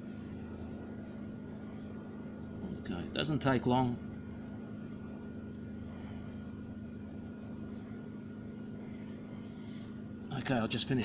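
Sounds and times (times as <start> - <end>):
low machine-like hum: 0.0 - 11.0.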